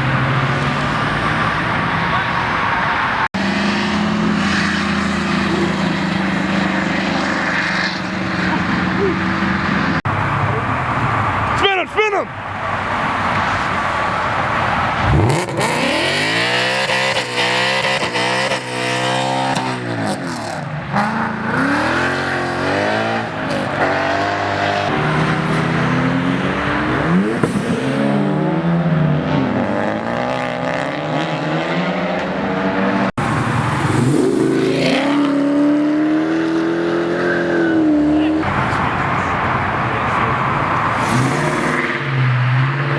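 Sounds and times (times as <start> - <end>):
car engines revving hard: 0.0 - 11.6, 12.3 - 42.9.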